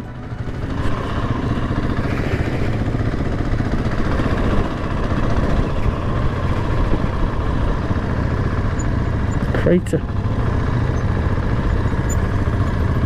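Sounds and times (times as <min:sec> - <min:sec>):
motorbike engine at low revs: 0:00.0 - 0:13.0
noisy rumble: 0:00.0 - 0:13.0.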